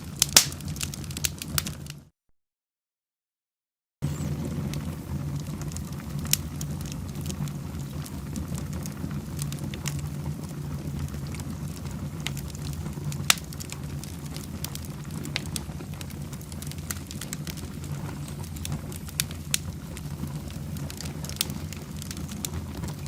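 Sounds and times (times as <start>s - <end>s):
fire crackling and popping: 0.0s - 2.1s, 4.0s - 23.0s.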